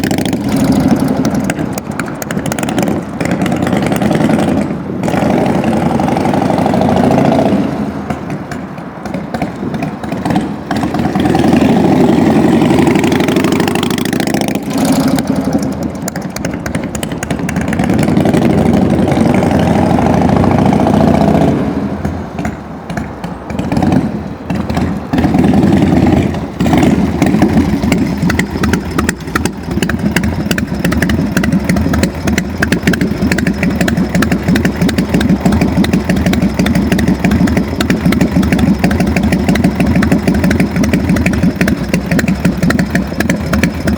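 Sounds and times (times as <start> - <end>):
motorcycle engine revving and idling: 0.0 - 43.9.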